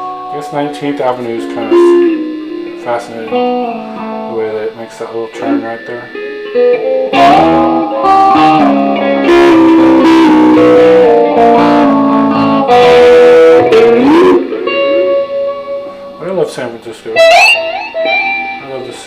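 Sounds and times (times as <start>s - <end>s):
electric guitar playing: 0.0s - 19.0s.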